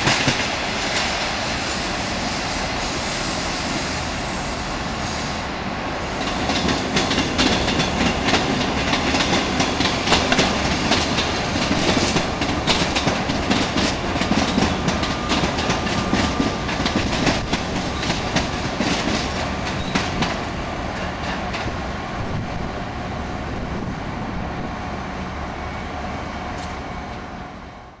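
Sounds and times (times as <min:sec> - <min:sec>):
electric train passing: 0:00.0 - 0:28.0.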